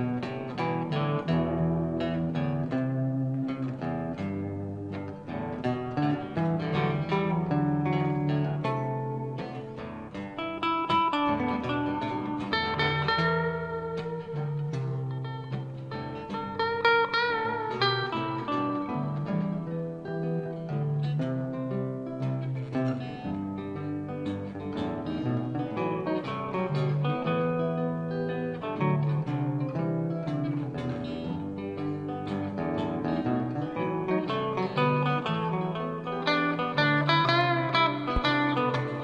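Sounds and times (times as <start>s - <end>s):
acoustic bass guitar: 0.0s - 39.0s
acoustic guitar: 0.0s - 39.0s
electric guitar: 0.0s - 39.0s.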